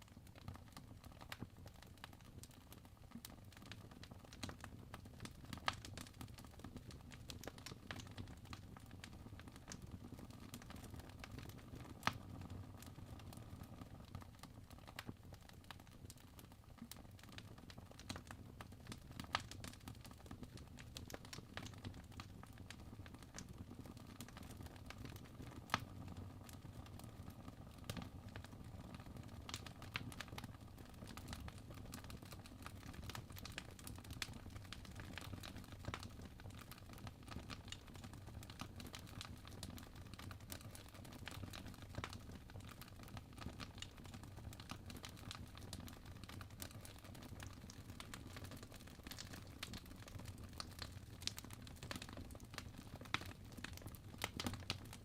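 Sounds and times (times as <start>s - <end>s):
fire crackling: 0.7s - 55.0s.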